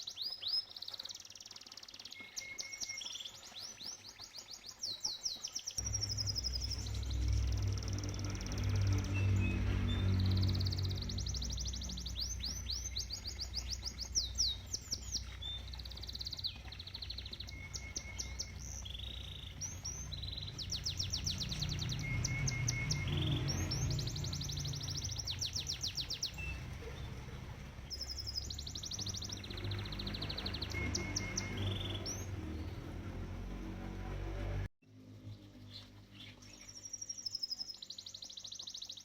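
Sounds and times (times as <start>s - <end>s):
canary singing trills: 0.0s - 33.2s
low rumble of pond water: 0.0s - 39.0s.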